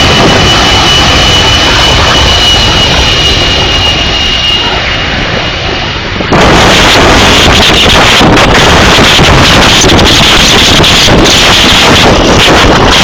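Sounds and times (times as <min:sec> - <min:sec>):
jet engine high whine: 0:00.0 - 0:13.0
jet engine roar: 0:00.0 - 0:13.0.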